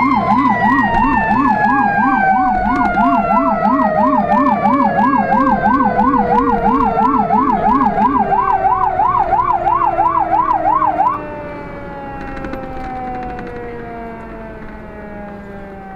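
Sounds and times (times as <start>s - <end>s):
electronic siren yelping: 0.0s - 15.9s
low-pitched siren warbling: 0.0s - 15.9s
truck engine and road noise: 0.0s - 15.9s.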